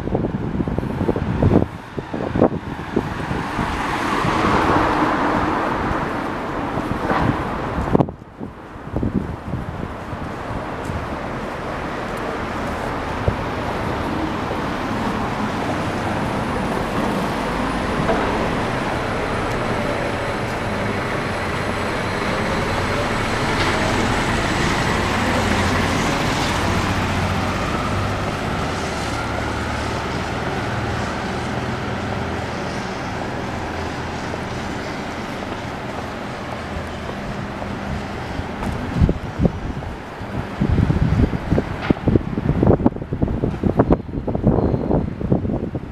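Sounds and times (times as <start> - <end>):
road traffic rumble: 0.0 - 45.9.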